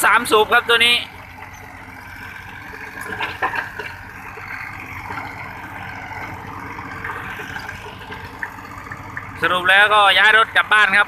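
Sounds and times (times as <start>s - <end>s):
excavator engine idling: 0.0s - 11.0s.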